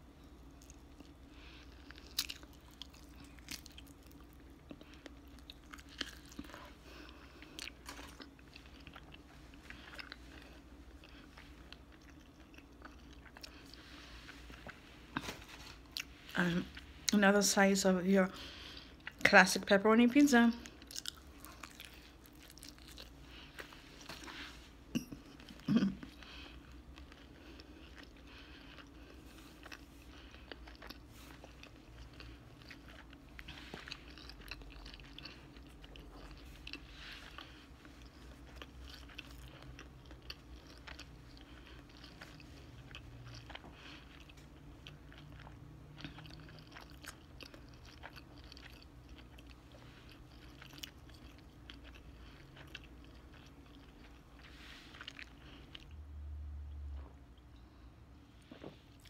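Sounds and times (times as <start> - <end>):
chewing crunchy pizza: 0.0 - 56.0, 56.7 - 59.0.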